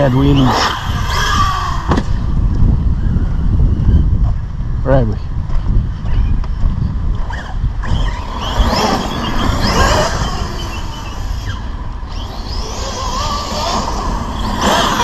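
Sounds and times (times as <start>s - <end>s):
electric motor whining: 0.0s - 4.5s, 5.9s - 15.0s
wind rumbling on microphone: 0.0s - 15.0s.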